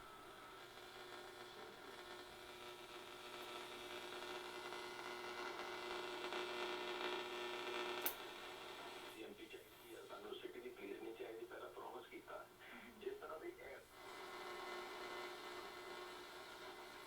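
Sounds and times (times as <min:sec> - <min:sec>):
radio hum and static hiss: 0:00.0 - 0:17.0.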